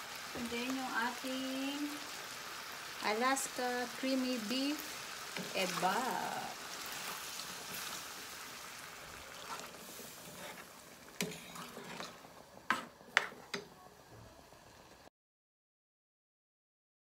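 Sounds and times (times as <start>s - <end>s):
sauce sizzling in a frying pan: 0.0s - 15.1s.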